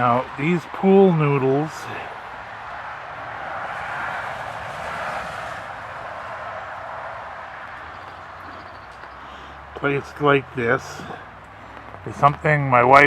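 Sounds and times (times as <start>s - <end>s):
passing vehicle rushing: 0.0s - 13.0s.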